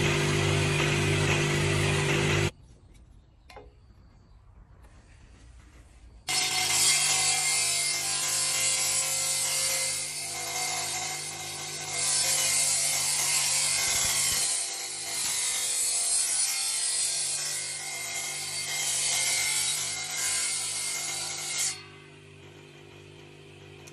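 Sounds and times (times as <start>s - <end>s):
table saw cutting wood: 0.0s - 2.5s, 6.3s - 23.8s.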